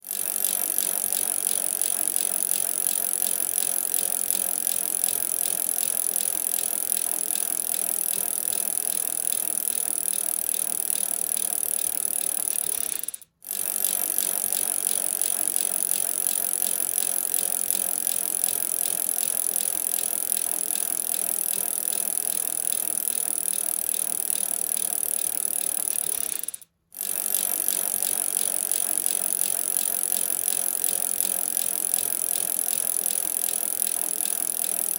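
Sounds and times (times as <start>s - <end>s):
bicycle chain rattling: 0.1s - 34.9s.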